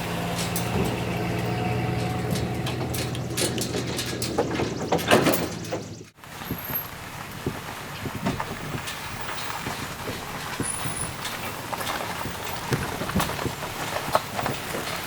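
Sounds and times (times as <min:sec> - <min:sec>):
light rattles and knocks: 0:00.0 - 0:15.0
vehicle engine running: 0:00.0 - 0:15.0.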